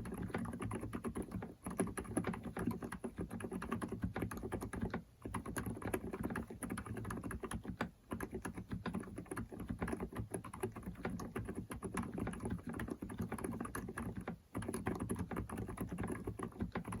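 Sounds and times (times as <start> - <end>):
soft muffled keyboard typing: 0.0 - 17.0.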